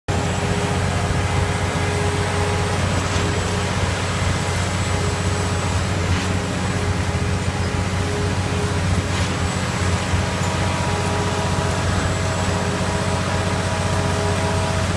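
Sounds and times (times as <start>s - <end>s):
heavy machinery engine rumble: 0.1s - 14.9s.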